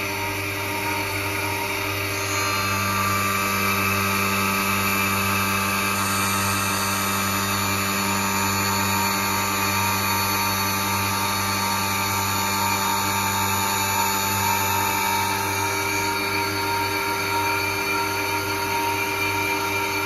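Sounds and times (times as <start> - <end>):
grinding machine humming: 0.0 - 20.0.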